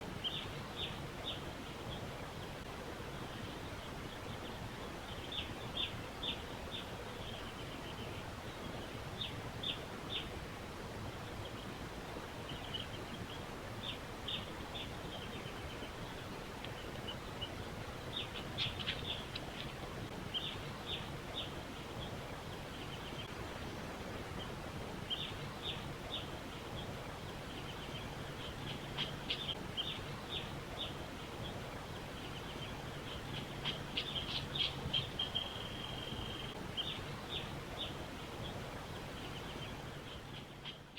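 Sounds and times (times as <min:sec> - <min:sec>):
background hiss: 0:00.0 - 0:40.9.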